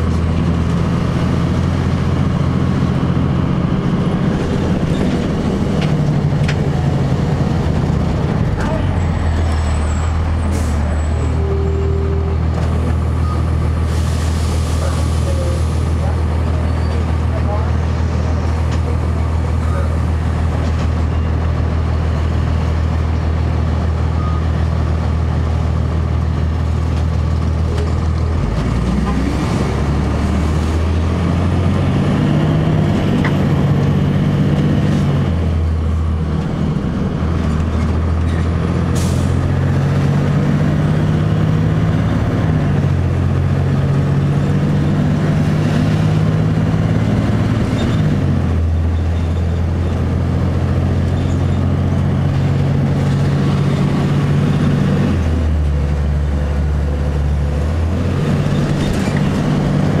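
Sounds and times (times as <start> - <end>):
bus diesel engine shifting gears: 0.0 - 60.0.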